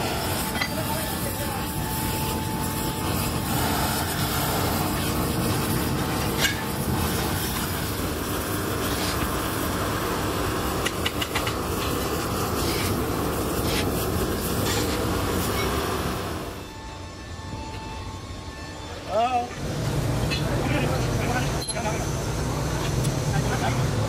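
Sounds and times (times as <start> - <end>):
foundry machinery rumble and hiss: 0.0 - 24.0.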